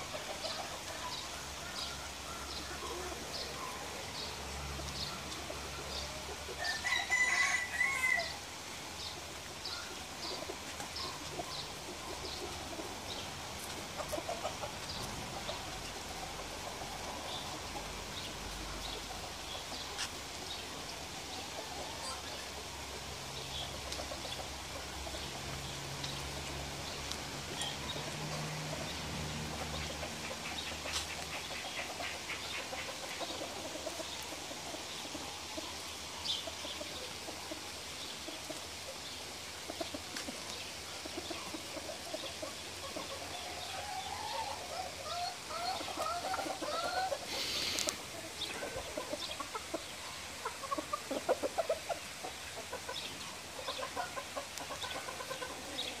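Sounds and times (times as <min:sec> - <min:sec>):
chickens clucking: 0:00.0 - 0:07.5, 0:08.6 - 0:56.0.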